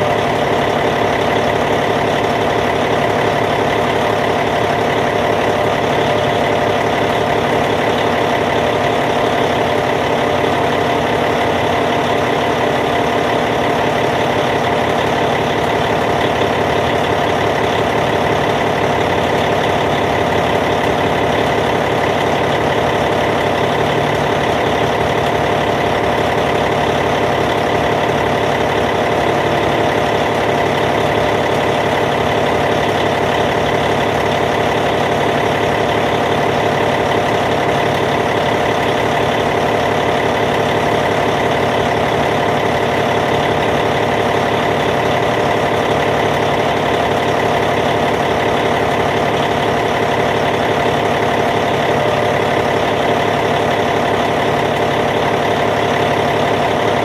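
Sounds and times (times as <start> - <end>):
diesel bulldozer engine idling: 0.0 - 57.0.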